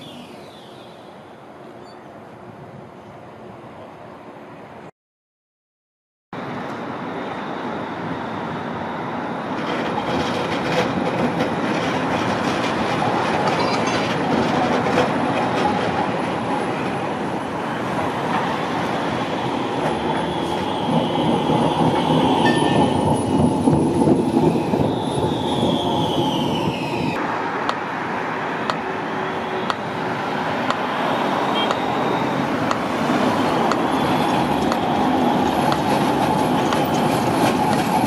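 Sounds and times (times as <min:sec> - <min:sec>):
tram wheel squeal: 0:00.0 - 0:02.2, 0:06.8 - 0:27.2, 0:28.7 - 0:38.0
tram passing on track: 0:00.0 - 0:04.9, 0:06.4 - 0:38.0.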